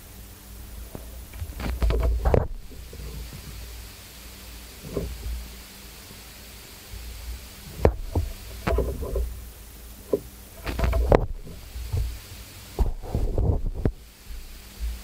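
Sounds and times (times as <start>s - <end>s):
amplifier hiss: 0.0s - 15.0s.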